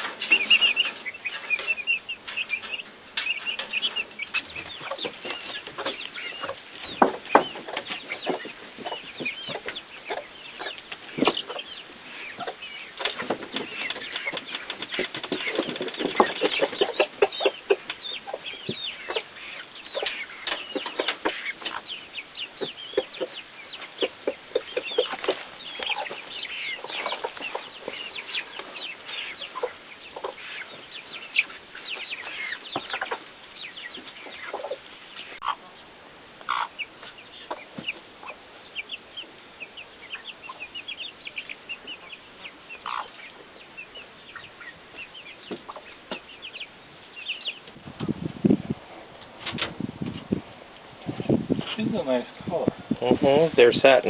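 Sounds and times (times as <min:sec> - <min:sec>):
chickens clucking and chirping: 0:00.0 - 0:54.0.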